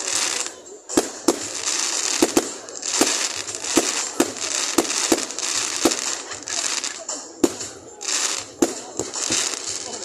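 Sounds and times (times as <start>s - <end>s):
firework bangs: 0.0s - 10.0s
fireworks crackling and hissing: 0.0s - 10.0s.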